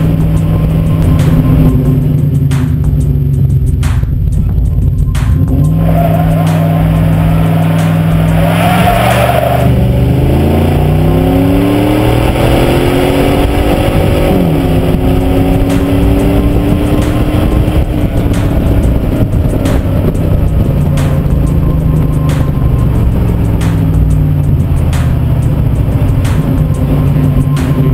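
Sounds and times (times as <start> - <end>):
truck engine exhaust: 0.0 - 27.9
tyre and road noise: 0.0 - 27.9.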